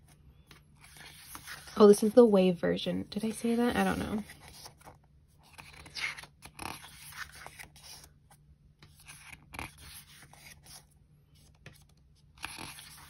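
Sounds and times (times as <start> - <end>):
paper pages rustling: 0.0 - 2.2, 3.3 - 13.0.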